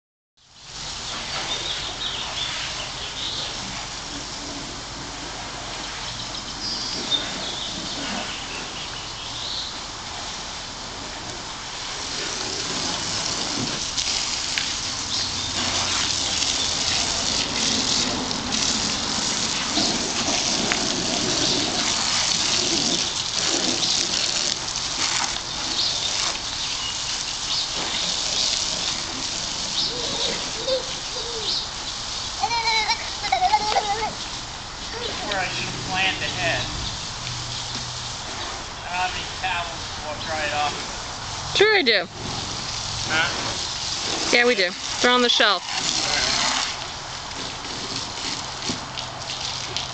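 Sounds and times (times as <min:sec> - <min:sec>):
water spraying onto a car: 0:00.5 - 0:49.9.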